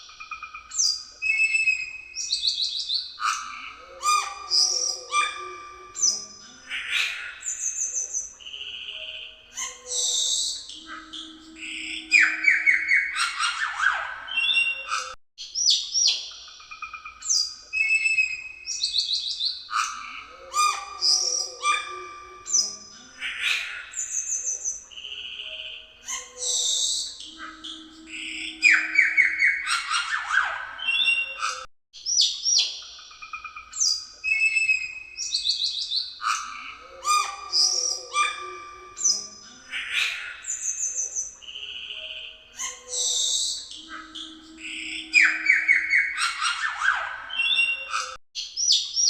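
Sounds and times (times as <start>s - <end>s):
bird singing whistles and trills: 0.0s - 49.0s.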